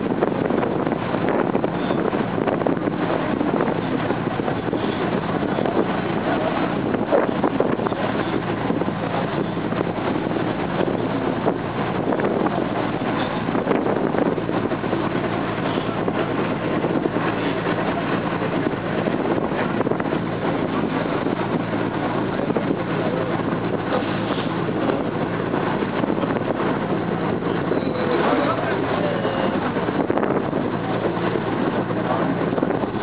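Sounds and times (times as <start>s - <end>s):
boat engine droning: 0.0s - 33.0s
wind buffeting microphone: 0.0s - 33.0s.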